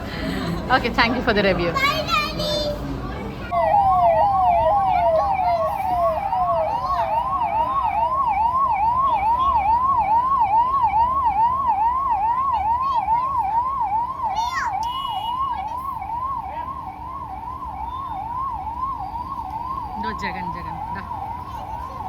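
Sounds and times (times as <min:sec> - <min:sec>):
second siren sliding lower: 0:03.5 - 0:22.0
vehicle siren yelping: 0:03.5 - 0:22.0.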